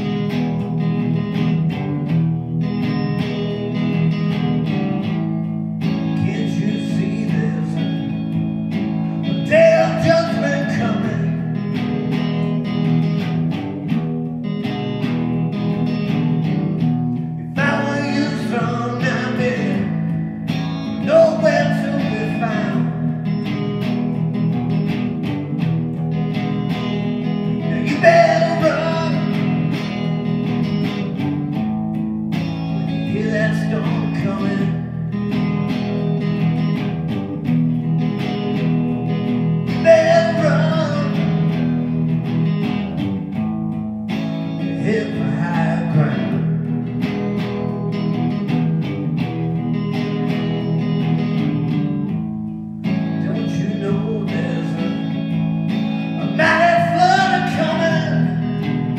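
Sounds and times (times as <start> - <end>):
electric guitar blues-rock playing: 0.0 - 58.9.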